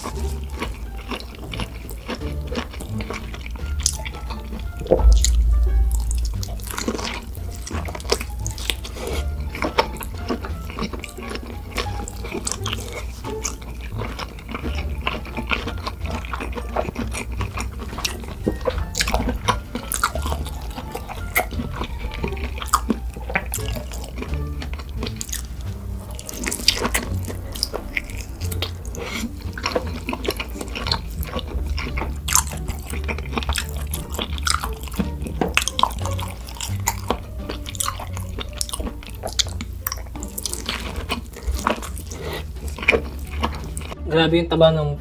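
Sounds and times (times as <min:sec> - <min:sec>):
close chewing with mouth clicks: 0:00.0 - 0:44.0
quiet background music: 0:00.0 - 0:45.0.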